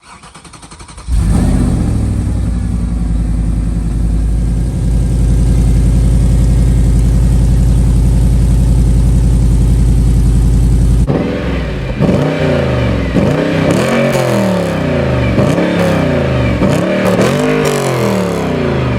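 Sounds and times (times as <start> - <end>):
car engine idling: 0.6 - 18.9.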